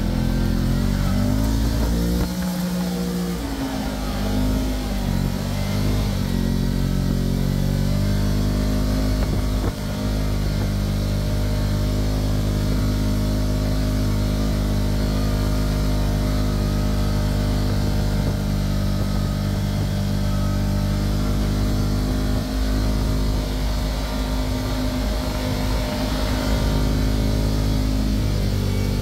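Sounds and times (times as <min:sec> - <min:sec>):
wind noise: 0:00.0 - 0:11.7, 0:15.9 - 0:29.0
tyre noise: 0:00.0 - 0:29.0
vehicle engine droning: 0:00.0 - 0:29.0.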